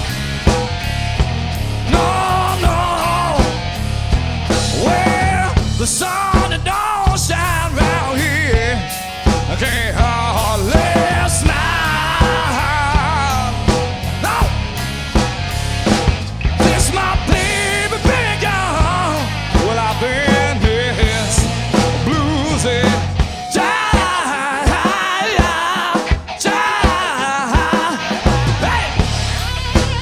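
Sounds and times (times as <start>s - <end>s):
bending guitar lead line: 0.0s - 30.0s
blues-rock band playing: 0.0s - 30.0s.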